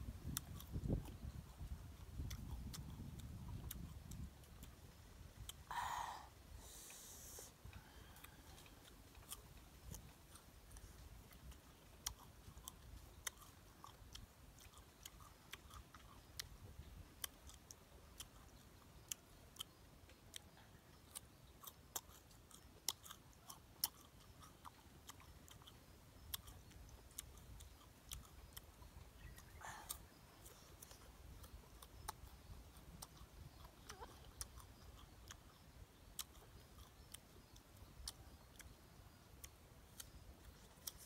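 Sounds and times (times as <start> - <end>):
person crunching fruit: 0.2 - 7.1, 7.8 - 41.0.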